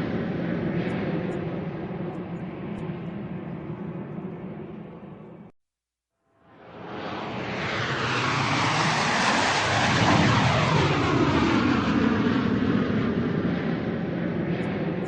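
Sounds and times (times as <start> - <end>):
airplane flying by: 0.0 - 5.5, 6.5 - 15.0.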